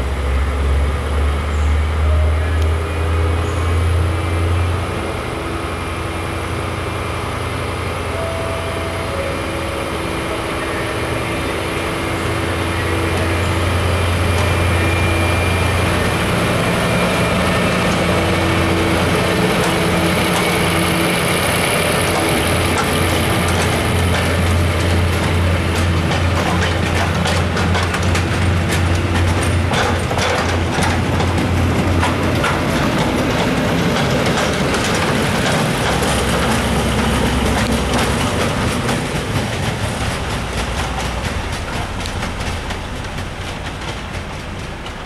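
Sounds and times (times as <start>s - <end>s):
diesel locomotive engine hum: 0.0s - 45.0s.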